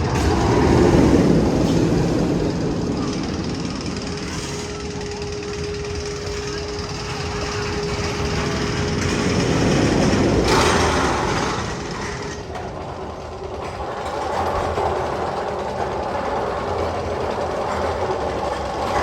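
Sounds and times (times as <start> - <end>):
roller coaster rumbling on track: 0.0 - 19.0.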